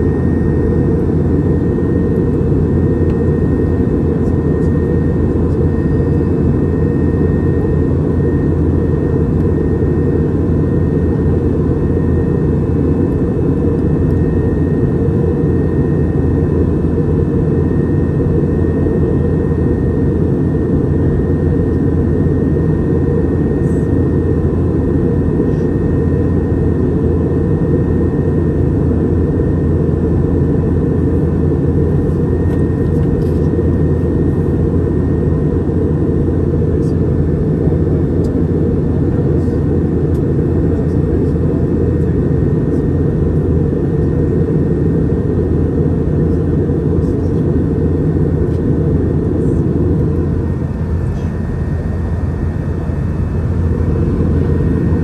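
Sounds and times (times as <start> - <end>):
airliner cabin engine rumble: 0.0 - 55.0
faint steady whine: 0.0 - 55.0.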